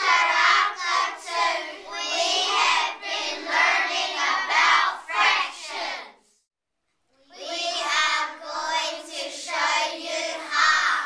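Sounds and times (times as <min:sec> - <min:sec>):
children singing in unison: 0:00.0 - 0:06.2, 0:07.4 - 0:11.0.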